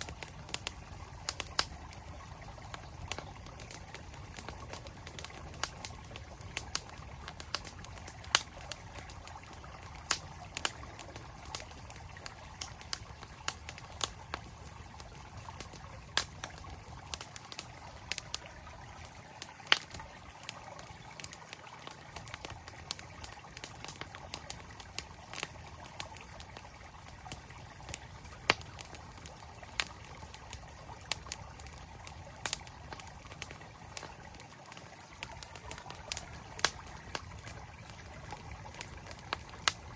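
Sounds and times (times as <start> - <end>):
campfire crackling and popping: 0.0 - 39.9
stream flowing: 0.0 - 39.9.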